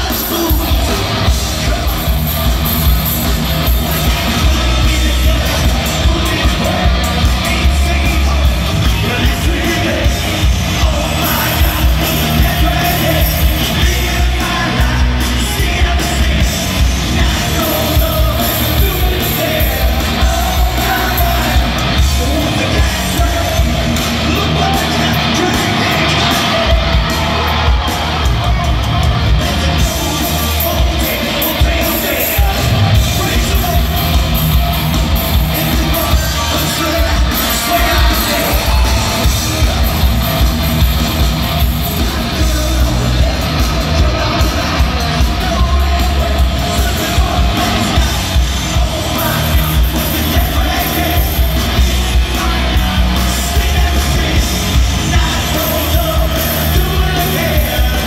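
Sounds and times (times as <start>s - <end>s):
crowd yelling: 0.0s - 58.0s
lead singer singing: 0.0s - 58.0s
rock band playing live: 0.0s - 58.0s.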